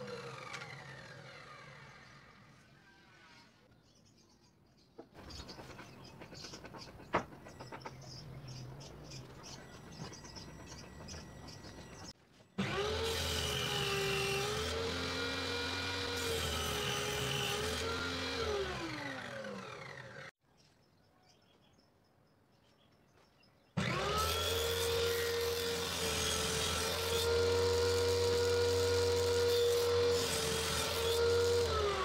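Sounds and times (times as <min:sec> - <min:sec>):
table saw cutting plywood: 0:00.0 - 0:03.7, 0:05.2 - 0:20.3, 0:23.8 - 0:32.0.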